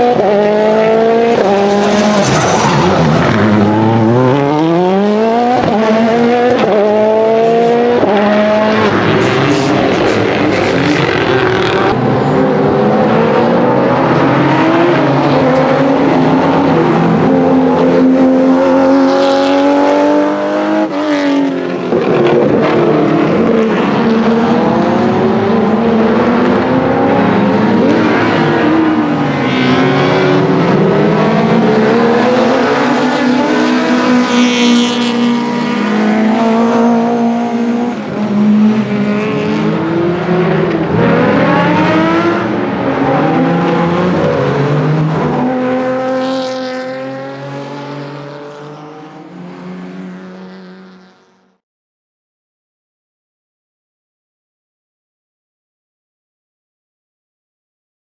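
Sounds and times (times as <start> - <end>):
rally car engines revving: 0.0 - 51.3.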